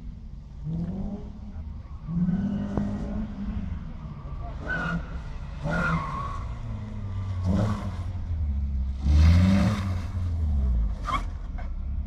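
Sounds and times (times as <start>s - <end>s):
car engine revving: 0.5s - 11.5s.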